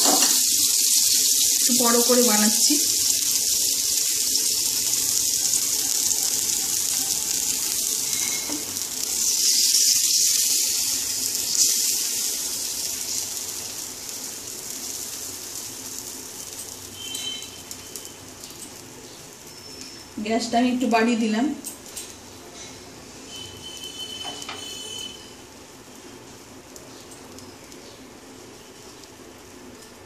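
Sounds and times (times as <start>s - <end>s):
batter sizzling on hot pan: 0.0s - 30.0s.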